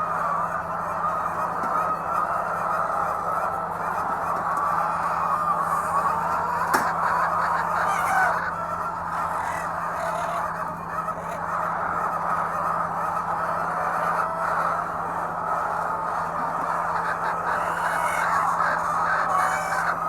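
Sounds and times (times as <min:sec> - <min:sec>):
hens clucking and squawking: 0:00.0 - 0:20.0.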